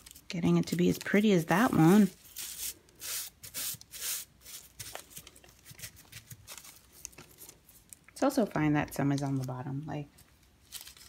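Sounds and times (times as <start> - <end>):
parchment paper rustling: 0.0 - 11.0.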